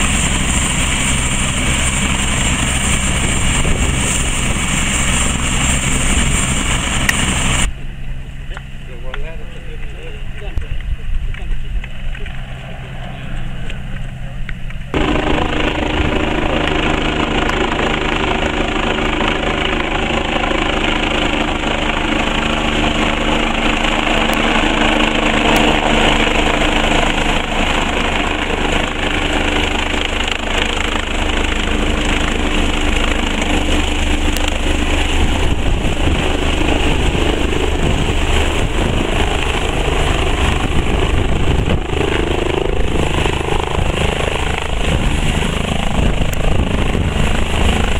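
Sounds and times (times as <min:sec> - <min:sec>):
helicopter rotor and engine: 0:00.0 - 0:47.9
steady hum: 0:00.0 - 0:47.9.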